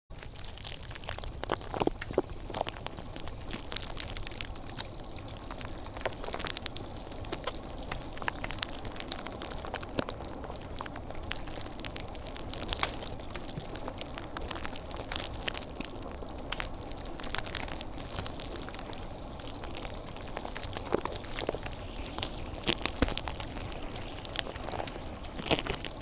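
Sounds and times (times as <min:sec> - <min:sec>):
sharp crackles and ticks: 0:00.1 - 0:26.0
low rumble and hiss: 0:00.2 - 0:26.0.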